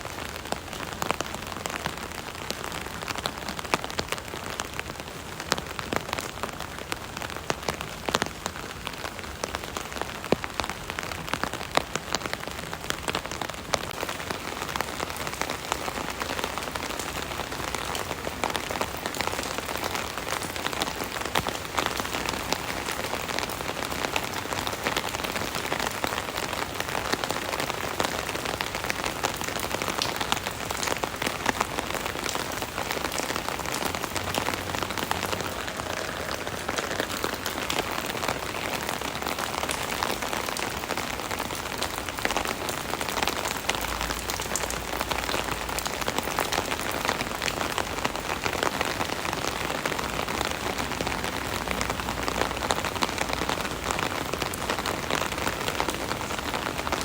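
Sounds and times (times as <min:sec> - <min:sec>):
rain pattering on an umbrella: 0:00.0 - 0:57.0.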